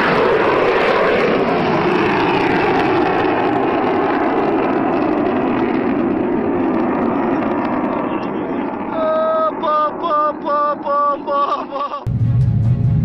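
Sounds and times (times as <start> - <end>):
fighter jet flying by: 0.0 - 13.0.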